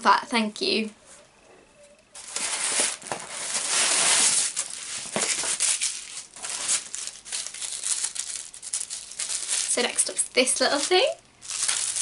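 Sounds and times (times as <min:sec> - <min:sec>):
paper wrapping crinkling and tearing: 0:02.2 - 0:12.0.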